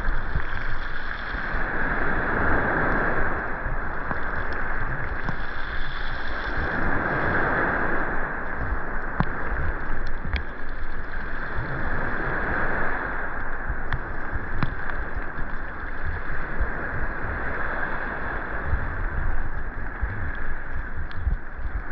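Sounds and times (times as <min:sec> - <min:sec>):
sea waves washing onto beach: 0:00.0 - 0:21.9
wind buffeting microphone: 0:01.4 - 0:05.6, 0:06.5 - 0:21.9.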